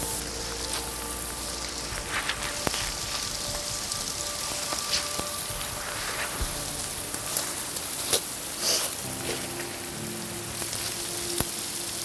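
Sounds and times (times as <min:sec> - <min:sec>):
sleet falling on dry leaves: 0:00.0 - 0:12.0.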